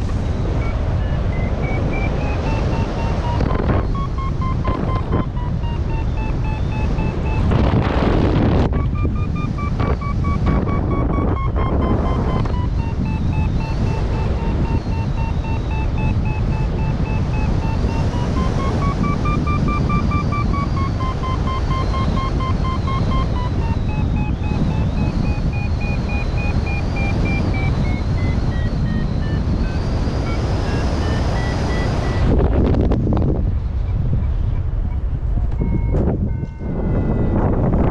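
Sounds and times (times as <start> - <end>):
variometer climb tone: 0.0 - 37.9
wind rush on microphone: 0.0 - 37.9.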